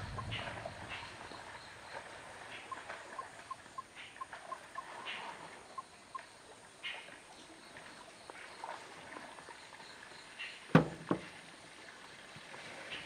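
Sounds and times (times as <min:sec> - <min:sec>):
faint water sounds: 0:00.0 - 0:13.0.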